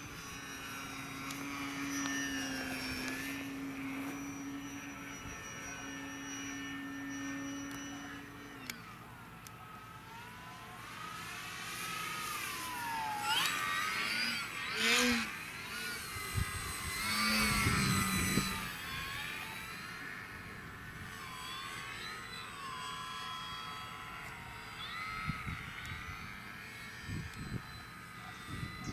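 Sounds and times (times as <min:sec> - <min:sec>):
model airplane motor whining: 0:00.0 - 0:28.9.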